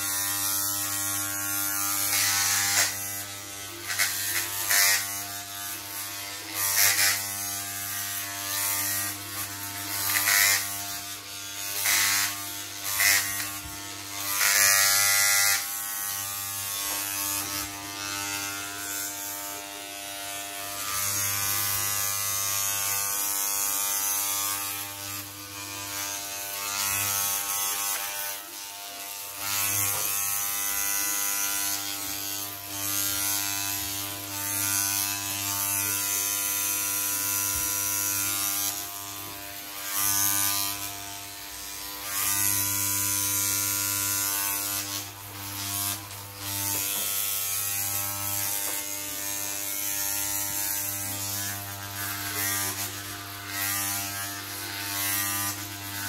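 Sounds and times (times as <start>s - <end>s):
clippers rasping through hair: 0.0s - 56.0s
electric hair clippers buzzing: 0.0s - 56.0s.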